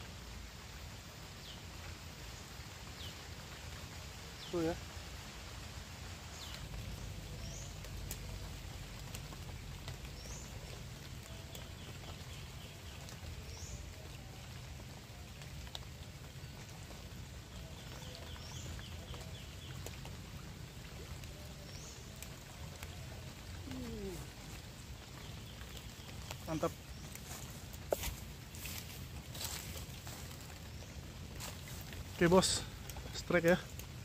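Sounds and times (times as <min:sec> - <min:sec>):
rain pattering on pond: 0:00.0 - 0:34.0.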